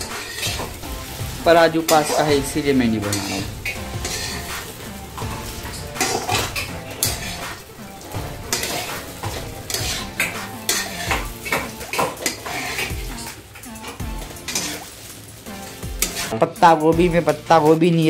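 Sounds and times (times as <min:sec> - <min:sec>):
metal utensils clinking on pots: 0:00.0 - 0:00.8, 0:01.4 - 0:16.4.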